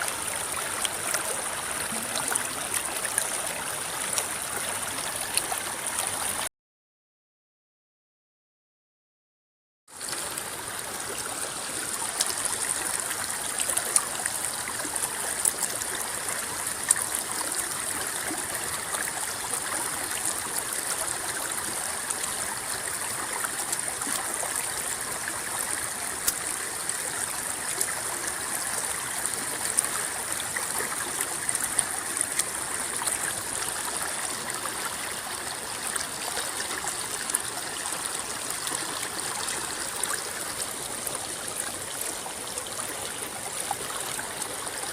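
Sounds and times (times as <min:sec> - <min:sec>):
small water splashes: 0:00.0 - 0:06.4, 0:10.0 - 0:44.9
river water babbling: 0:00.0 - 0:06.5, 0:10.0 - 0:44.9.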